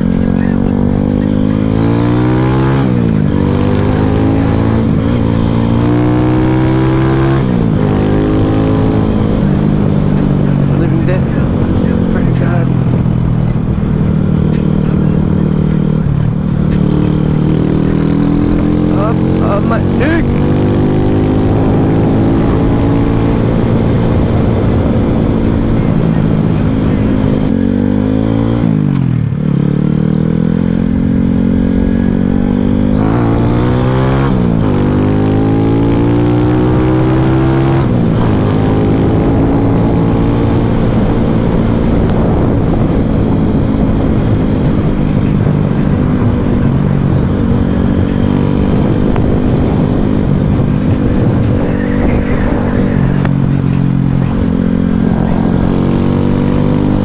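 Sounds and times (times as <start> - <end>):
low wind rumble: 0.0 - 57.0
minibike engine revving: 0.0 - 57.0.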